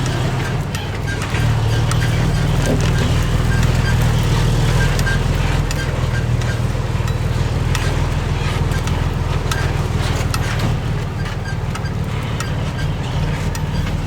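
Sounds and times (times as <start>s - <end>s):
bulldozer engine running: 0.0s - 14.0s
metallic clanks and knocks: 0.0s - 14.0s.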